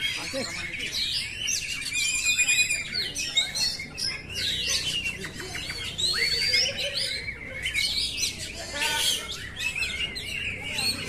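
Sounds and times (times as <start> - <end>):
bird singing whistled song: 0.0 - 11.0.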